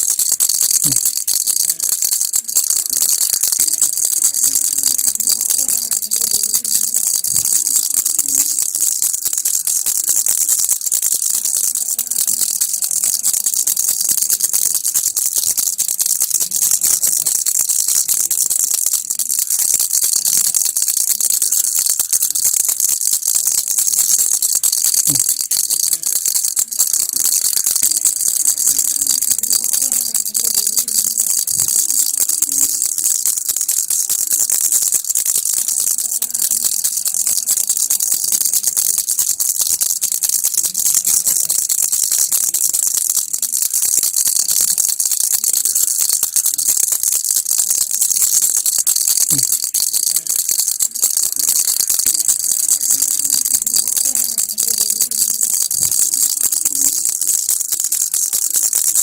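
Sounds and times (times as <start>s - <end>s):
baby rattle shaking: 0.0s - 59.0s.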